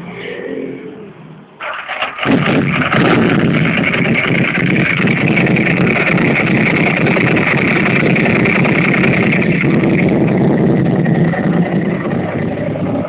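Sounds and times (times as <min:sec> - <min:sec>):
motorcycle engine idling: 0:01.6 - 0:13.0.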